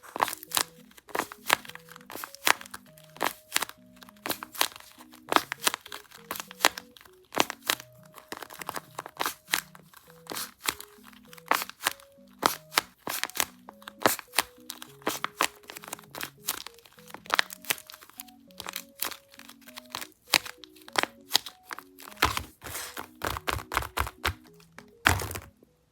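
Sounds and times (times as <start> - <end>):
paper crinkling: 0.0 - 25.6
soft melodic background music: 0.0 - 25.9.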